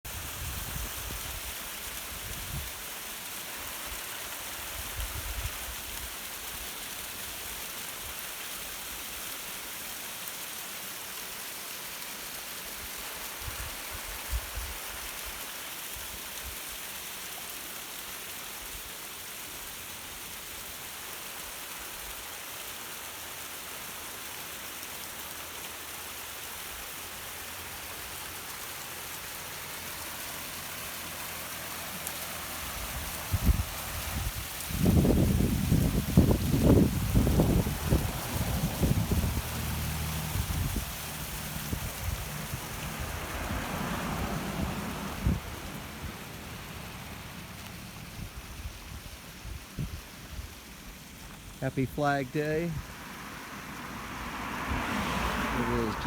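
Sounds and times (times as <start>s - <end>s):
waterfall rushing hiss: 0.1s - 56.0s.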